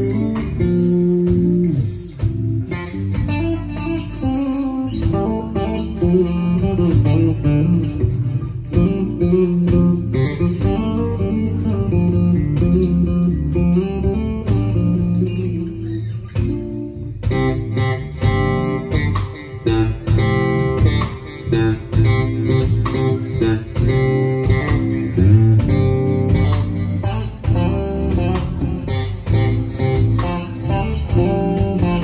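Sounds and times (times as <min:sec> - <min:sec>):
drum kit: 0:00.0 - 0:32.0
electric bass guitar: 0:00.0 - 0:32.0.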